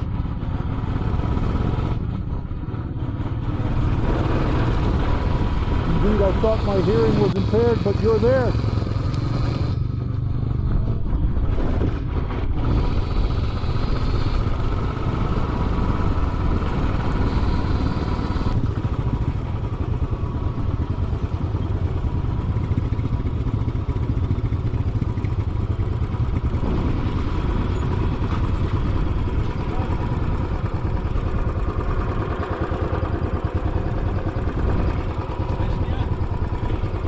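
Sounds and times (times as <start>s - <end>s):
motorcycle engine running steadily: 0.0s - 37.0s.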